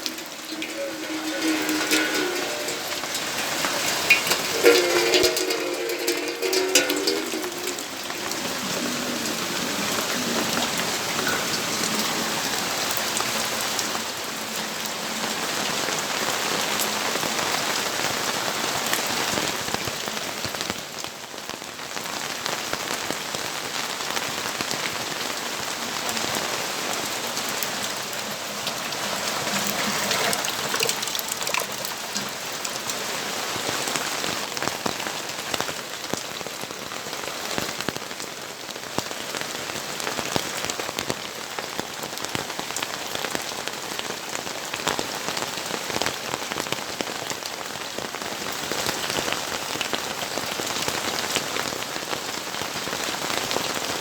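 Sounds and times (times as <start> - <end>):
raindrops clicking close by: 0.0 - 54.0
steady rainfall: 0.0 - 54.0.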